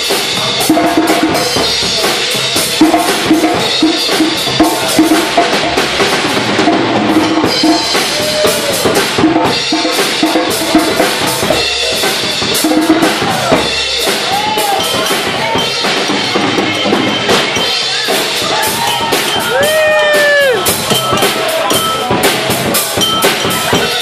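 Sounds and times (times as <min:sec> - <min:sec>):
drum kit playing fast rhythm: 0:00.0 - 0:24.0.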